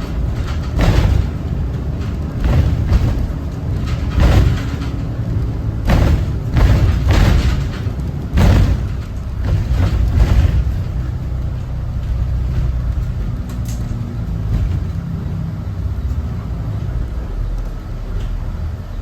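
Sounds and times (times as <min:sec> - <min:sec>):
knocks or rattles: 0:00.0 - 0:15.4
diesel bus engine droning: 0:00.0 - 0:19.0.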